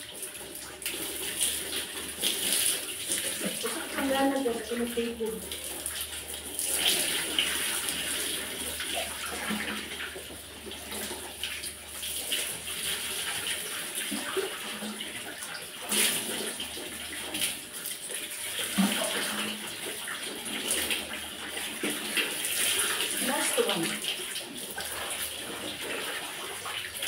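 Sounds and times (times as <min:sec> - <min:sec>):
water pouring and splashing: 0:00.0 - 0:27.0.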